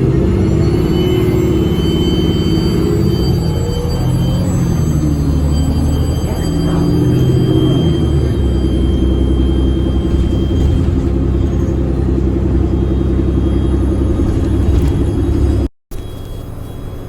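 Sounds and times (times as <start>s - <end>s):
bus interior low hum: 0.0s - 17.0s.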